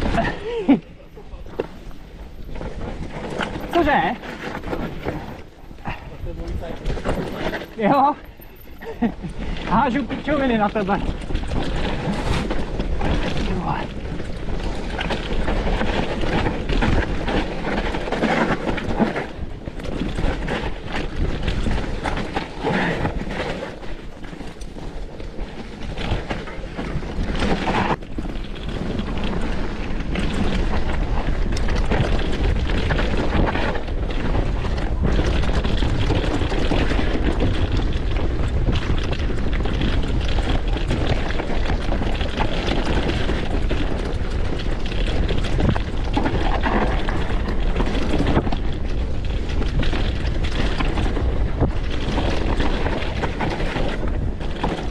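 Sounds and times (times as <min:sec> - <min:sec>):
bike rattling and knocking: 0:00.0 - 0:54.9
tyres rolling over roots and rocks: 0:00.0 - 0:54.9
wind buffeting microphone: 0:00.0 - 0:54.9.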